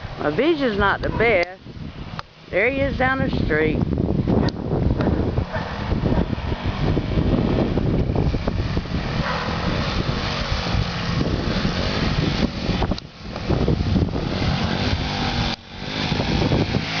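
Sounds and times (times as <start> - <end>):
wind rumble on microphone: 0.0 - 17.0
distant dirt bike engine: 2.5 - 17.0.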